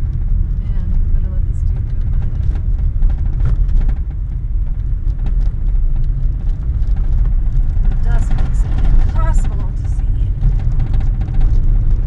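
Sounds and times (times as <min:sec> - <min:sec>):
car interior rattles: 0:00.0 - 0:12.0
tyres rumbling on gravel: 0:00.0 - 0:12.0.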